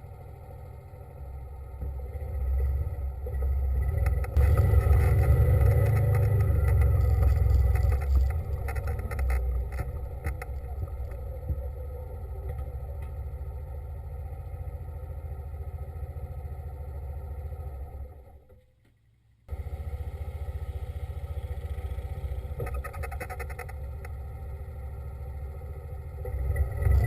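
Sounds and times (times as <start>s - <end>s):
small engine running with rattling: 0.0s - 18.4s, 19.5s - 27.0s.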